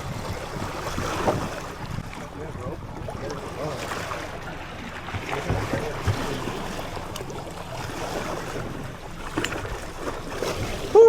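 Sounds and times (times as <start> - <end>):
boat motor running: 0.0 - 11.0
water noise: 0.0 - 11.0
wind: 0.0 - 11.0.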